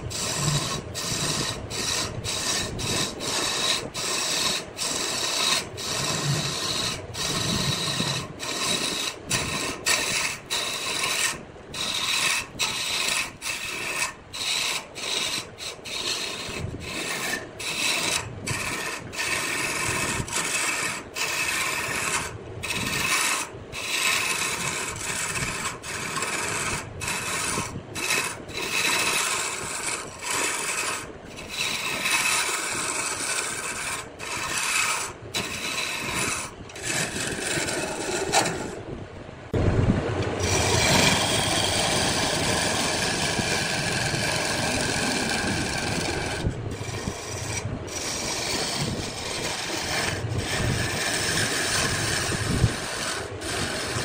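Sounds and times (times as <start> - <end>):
wood lathe scraping: 0.0 - 38.9, 40.2 - 54.0.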